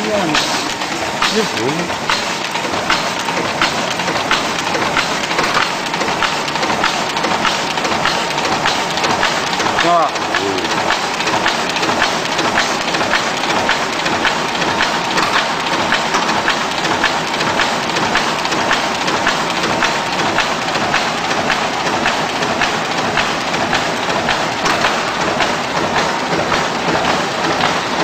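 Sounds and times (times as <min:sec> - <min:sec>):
printing machine clattering: 0:00.0 - 0:28.0.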